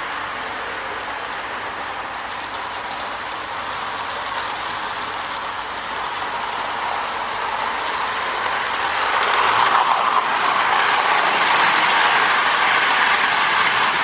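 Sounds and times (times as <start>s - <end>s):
toy train whirring rumble: 0.0s - 14.0s.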